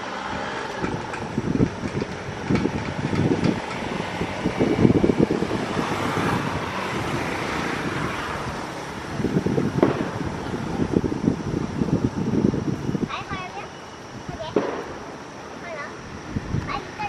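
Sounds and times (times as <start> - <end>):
passing vehicle hiss: 0.0 - 17.0
wind buffeting microphone: 0.0 - 17.0.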